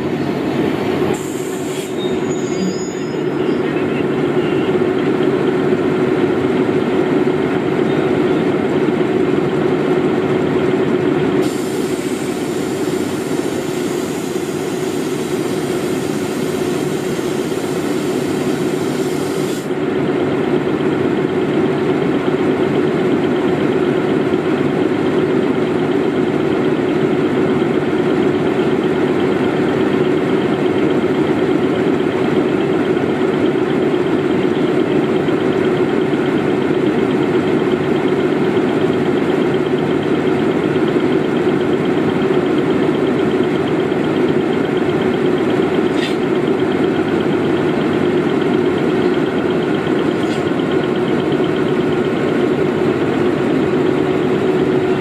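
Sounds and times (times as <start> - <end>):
diesel train engine idling: 0.0 - 55.0.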